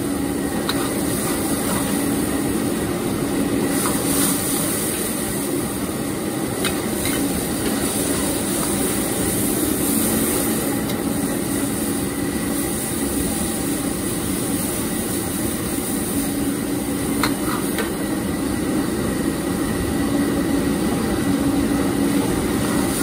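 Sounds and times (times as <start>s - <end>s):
food sizzling in a wok: 0.0s - 23.0s
gas burner roaring: 0.0s - 23.0s.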